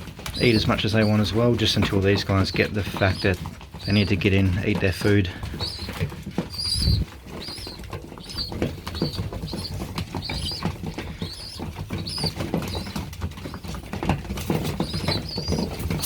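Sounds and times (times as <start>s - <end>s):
beaks pecking grain: 0.0s - 16.0s
young pigeons peeping: 0.0s - 16.0s.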